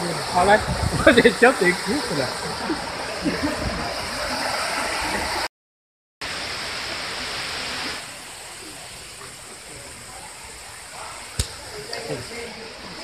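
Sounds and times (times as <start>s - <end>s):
running water rushing: 0.0s - 5.5s, 6.2s - 13.0s.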